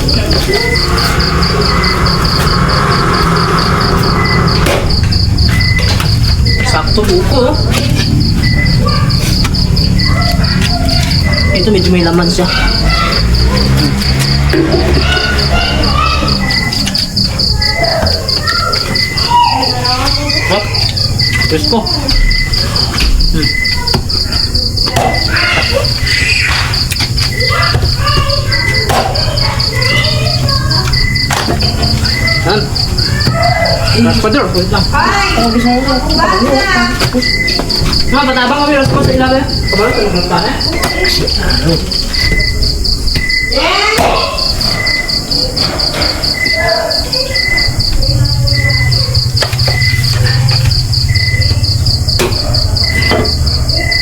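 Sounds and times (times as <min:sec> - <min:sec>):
faint voices: 0:00.0 - 0:54.0
insects chirping in pulsing trill: 0:00.0 - 0:54.0.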